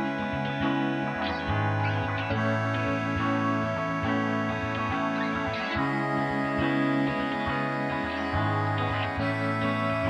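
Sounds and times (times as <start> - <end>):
plucked guitar over chords: 0.0 - 10.0.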